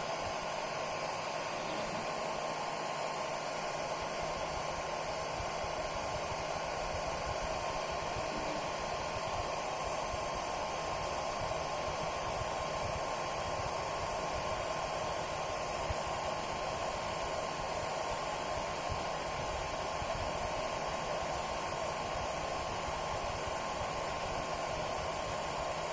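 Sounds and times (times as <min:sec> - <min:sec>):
cooling fan whirring: 0:00.0 - 0:25.9.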